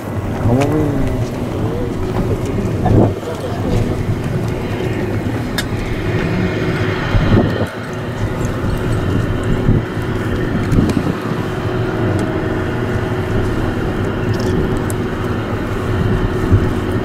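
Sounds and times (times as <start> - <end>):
ship machinery humming: 0.0 - 17.0
wind on microphone: 0.0 - 17.0.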